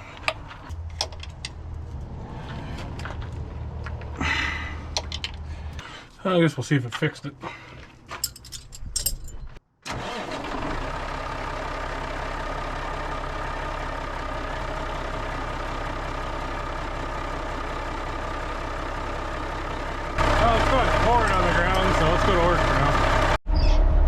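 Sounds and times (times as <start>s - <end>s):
truck engine running: 0.0s - 6.0s, 7.5s - 23.4s.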